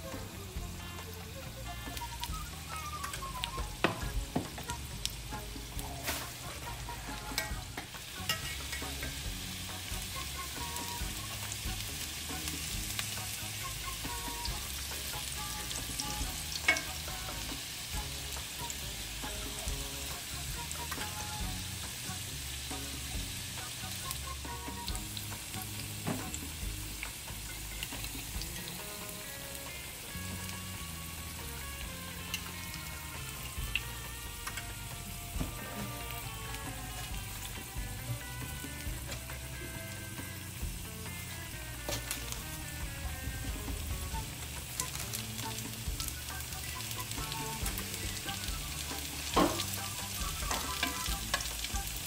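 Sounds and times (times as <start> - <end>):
oil sizzling while deep-frying: 0.0 - 52.0.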